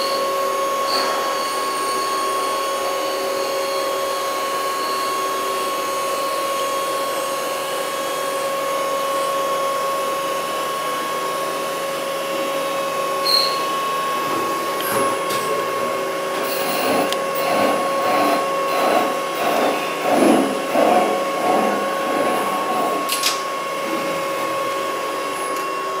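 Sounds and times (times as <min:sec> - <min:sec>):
lathe machine whine: 0:00.0 - 0:26.0.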